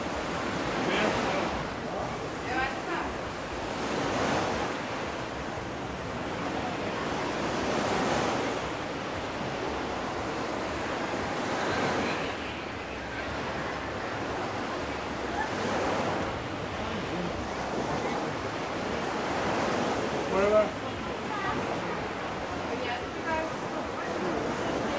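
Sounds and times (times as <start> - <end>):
small waves breaking on sand: 0.0 - 24.9.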